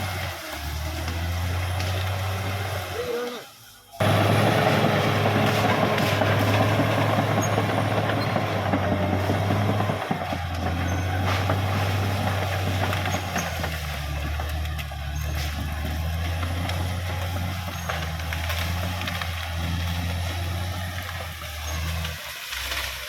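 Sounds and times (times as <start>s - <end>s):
bulldozer diesel engine running: 0.0s - 3.1s, 3.8s - 23.0s.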